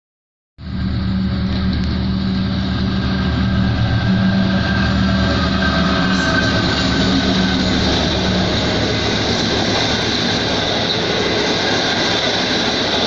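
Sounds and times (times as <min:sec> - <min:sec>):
locomotive diesel engine running: 0:00.6 - 0:13.0
train rumbling on rails: 0:00.6 - 0:13.0.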